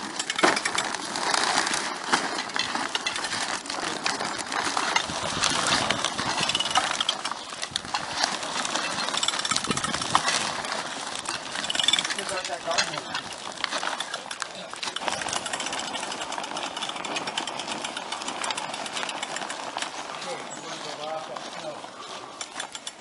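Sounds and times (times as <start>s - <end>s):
plastic sheeting rustling: 0.0s - 23.0s.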